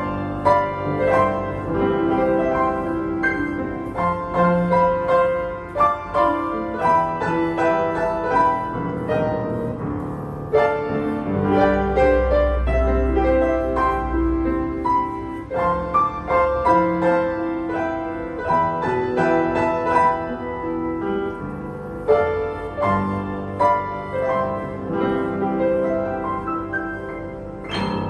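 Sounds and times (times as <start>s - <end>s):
upright piano playing: 0.0s - 28.0s.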